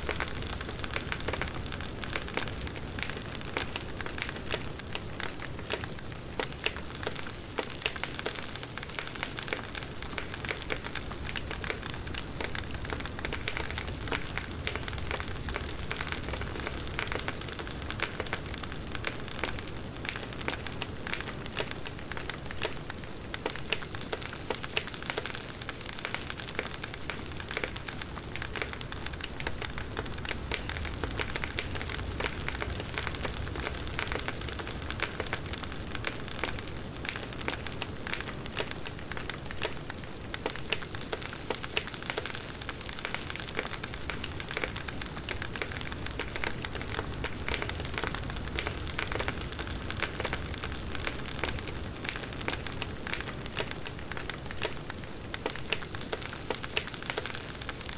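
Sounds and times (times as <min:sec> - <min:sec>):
low rumble of burning: 0:00.0 - 0:07.8, 0:08.8 - 0:57.9
bonfire crackling and popping: 0:00.0 - 0:57.9.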